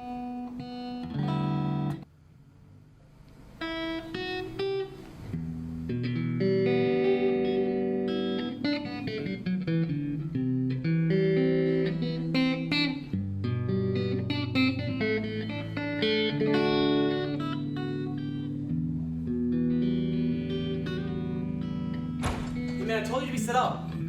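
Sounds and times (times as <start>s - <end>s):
plucked and strummed guitar: 0.0s - 2.1s, 3.6s - 24.0s.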